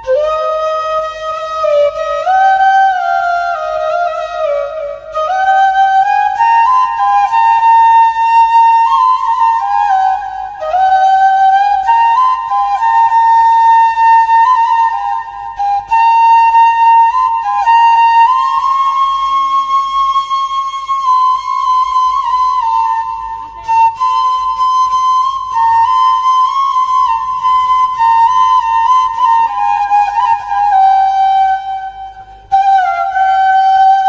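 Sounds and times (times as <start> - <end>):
solo flute melody: 0.0 - 34.0.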